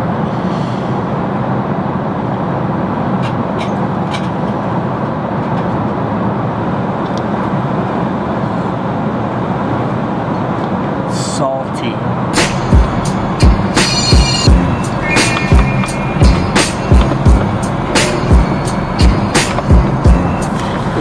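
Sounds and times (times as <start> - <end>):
airliner cabin rushing hum: 0.0 - 21.0.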